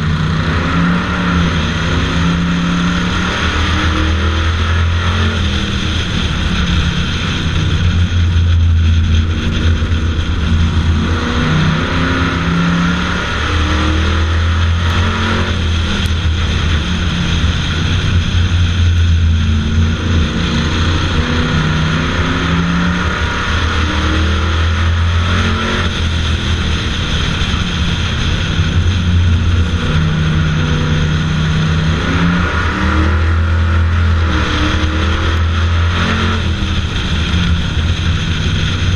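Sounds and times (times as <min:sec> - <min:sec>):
racing car engine revving: 0:00.0 - 0:38.9
steady rush of noise: 0:00.0 - 0:38.9.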